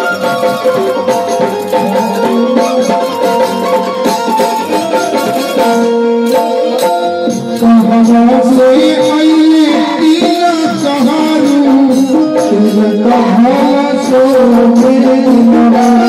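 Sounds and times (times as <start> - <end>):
hand percussion beat: 0.0 - 16.0
harmonium chords and melody: 0.0 - 16.0.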